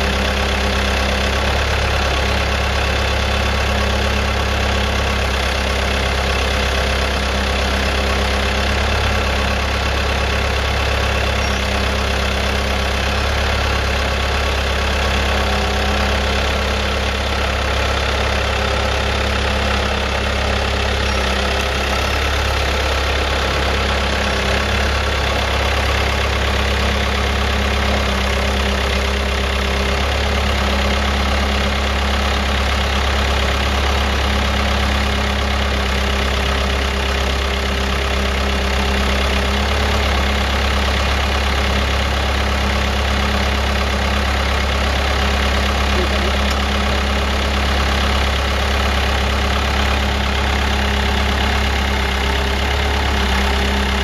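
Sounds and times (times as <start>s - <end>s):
sprayer engine idling: 0.0s - 54.0s.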